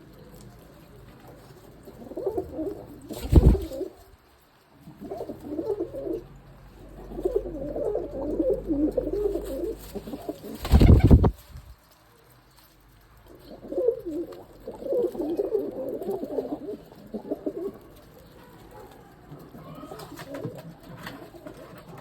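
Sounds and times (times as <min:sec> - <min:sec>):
pigeons cooing: 0:00.0 - 0:04.1, 0:04.7 - 0:11.4, 0:13.3 - 0:22.0.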